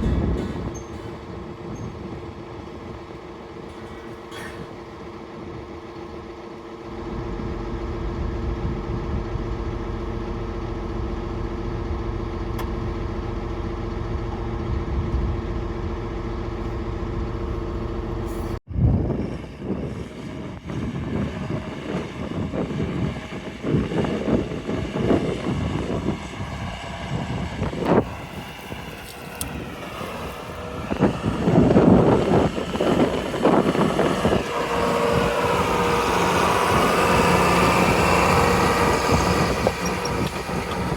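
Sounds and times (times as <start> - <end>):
tractor engine running: 0.0 - 18.6, 19.3 - 40.9.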